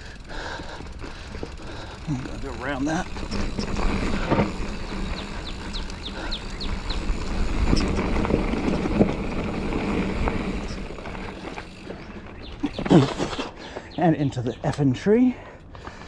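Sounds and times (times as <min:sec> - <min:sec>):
bike tyres crunching on dirt: 0:00.0 - 0:16.0.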